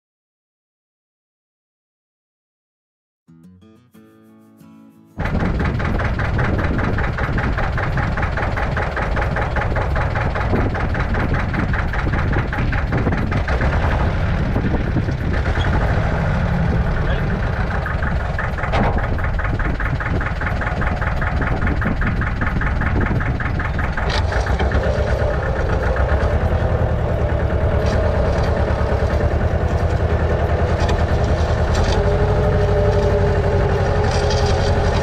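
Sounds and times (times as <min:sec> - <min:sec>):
engine running with ticking: 0:05.2 - 0:35.0.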